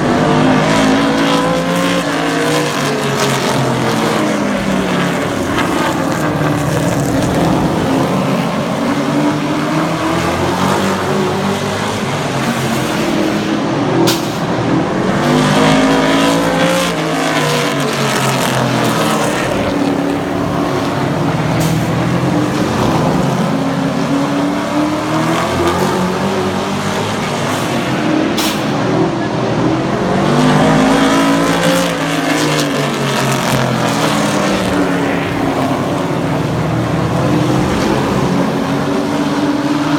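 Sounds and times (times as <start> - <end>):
racing truck engines: 0.0 - 39.9.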